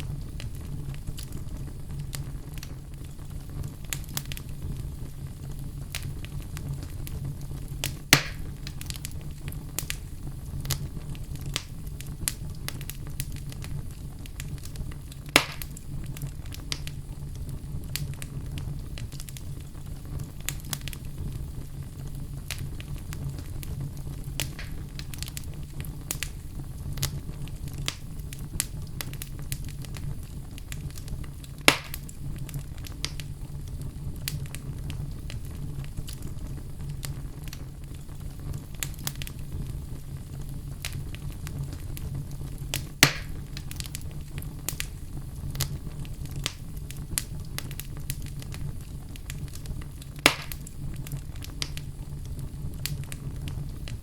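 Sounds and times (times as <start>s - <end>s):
fire low rumble: 0.0s - 54.0s
loud fire pops: 0.0s - 54.0s
wood fire crackling: 0.0s - 54.0s.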